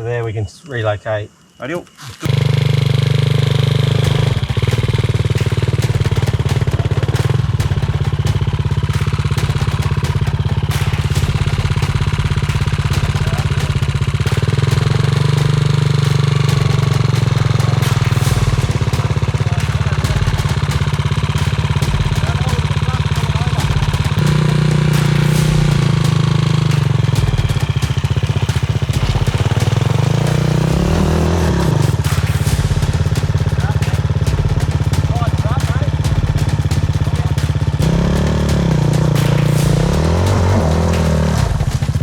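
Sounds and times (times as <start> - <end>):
dirt bike engine idling: 1.4 - 42.0.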